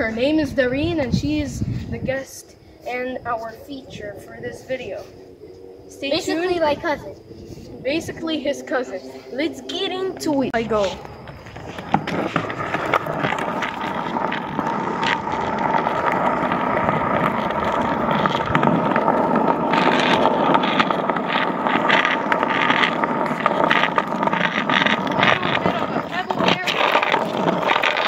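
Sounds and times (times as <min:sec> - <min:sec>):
skateboard wheels rolling on pavement: 0:00.0 - 0:28.0.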